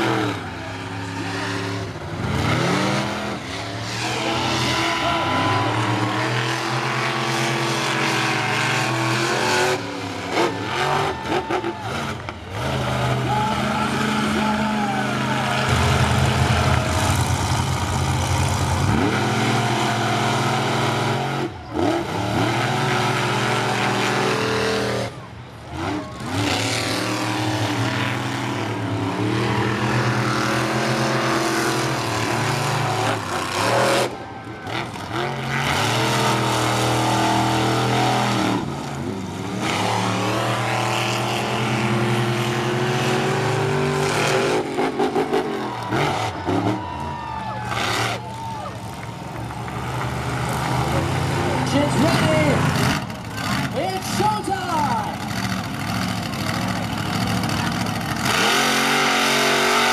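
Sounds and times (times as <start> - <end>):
truck engines rumbling and revving: 0.0 - 59.9.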